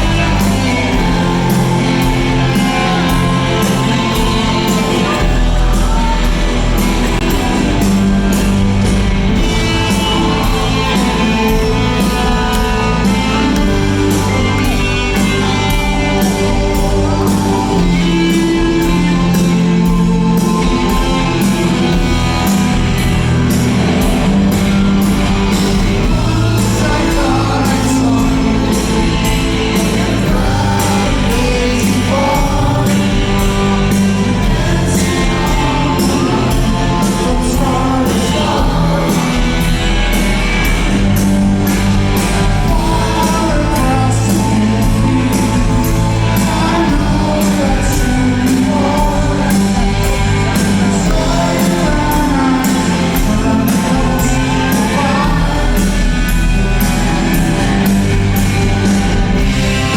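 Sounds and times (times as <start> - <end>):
bass guitar: 0.0 - 59.9
drums keeping a steady beat: 0.0 - 59.9
electric guitars: 0.0 - 59.9
person singing: 0.0 - 59.9.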